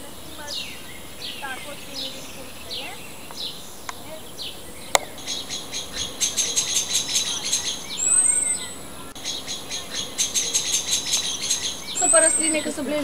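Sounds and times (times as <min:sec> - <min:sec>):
bird singing high notes: 0:00.0 - 0:13.0.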